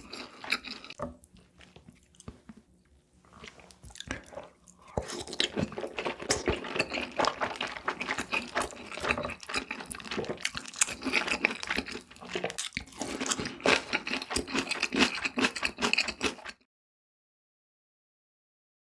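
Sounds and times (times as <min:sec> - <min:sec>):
mouth chewing and crunching: 0:00.0 - 0:16.6.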